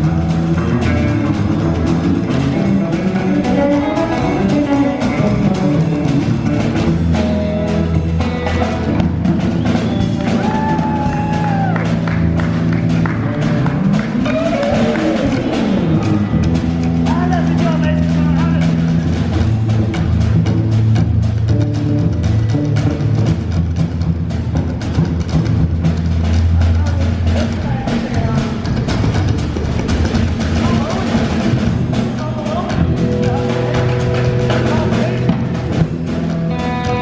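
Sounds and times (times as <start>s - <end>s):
electric guitar bending notes: 0.0s - 24.1s, 27.4s - 37.0s
bass guitar: 0.0s - 37.0s
steady drum beat: 0.0s - 37.0s.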